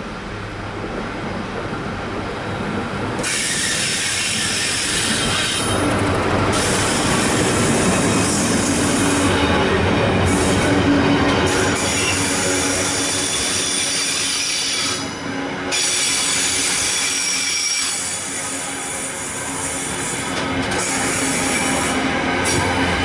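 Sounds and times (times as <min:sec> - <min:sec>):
diesel locomotive passing: 0:00.0 - 0:23.0
train wagons rolling on rails: 0:00.0 - 0:23.0.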